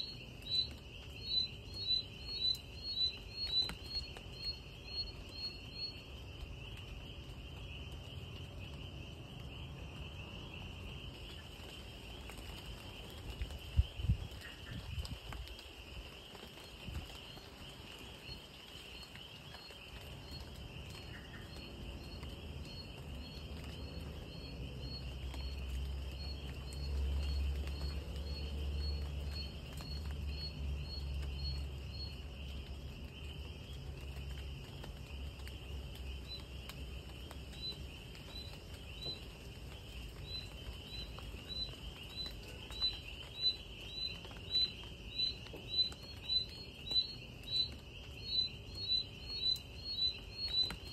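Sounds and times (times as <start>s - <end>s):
faint patter of rain: 0.0s - 50.9s
high drone of insects: 0.0s - 50.9s.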